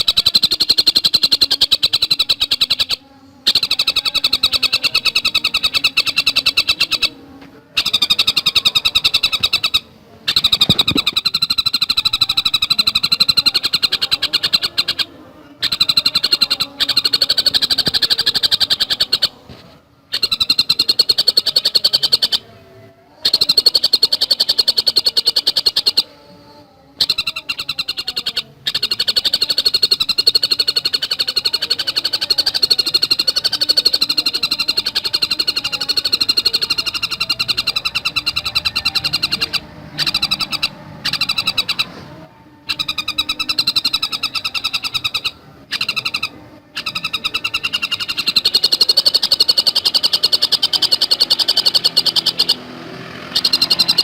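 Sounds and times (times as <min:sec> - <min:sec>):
bird singing rapid high notes: 0:00.0 - 0:54.0.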